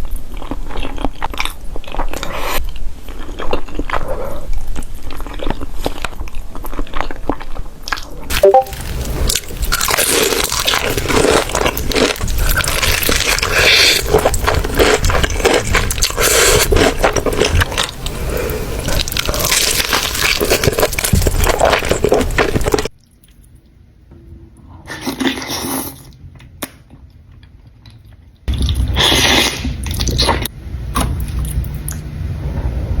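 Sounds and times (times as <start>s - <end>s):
close chewing and mouth noises: 0.0s - 23.8s, 24.8s - 30.5s.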